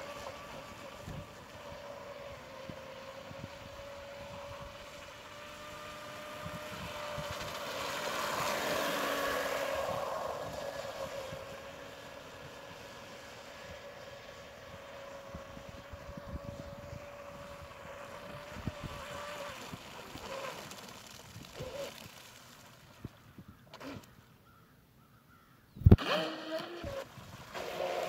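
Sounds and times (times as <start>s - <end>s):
electric boat motor whining: 0.0s - 22.2s, 25.9s - 28.0s.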